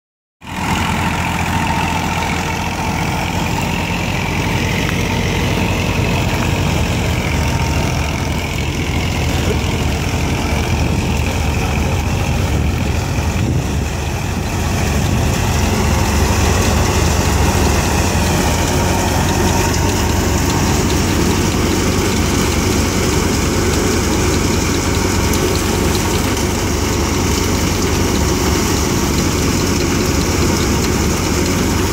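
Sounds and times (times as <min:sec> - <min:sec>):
thresher running: 0:00.4 - 0:31.9
tractor engine running: 0:00.4 - 0:31.9.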